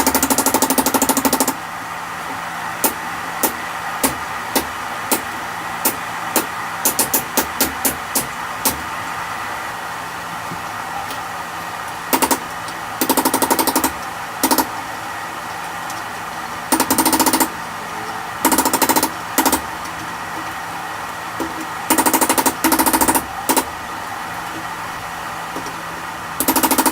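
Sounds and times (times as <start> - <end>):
rapid mechanical hammering: 0.0 - 9.1, 11.9 - 26.9
steady hum: 0.0 - 26.9.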